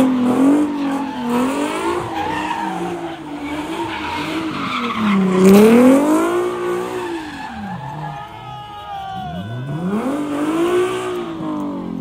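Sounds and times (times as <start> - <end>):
car engine revving hard: 0.0 - 7.7, 9.7 - 12.0
tyres squealing: 0.3 - 11.4.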